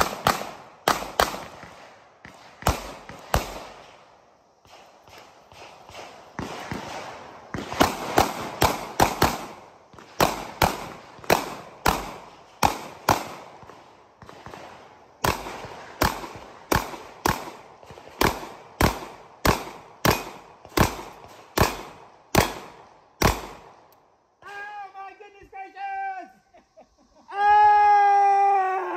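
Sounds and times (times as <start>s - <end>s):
pistol shots: 0.0s - 4.0s, 4.6s - 24.0s.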